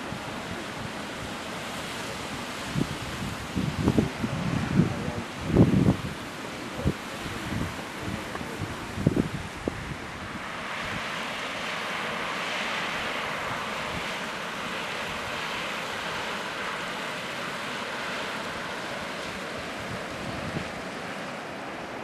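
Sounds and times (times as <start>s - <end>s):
fumarole venting steam: 0.0s - 22.0s.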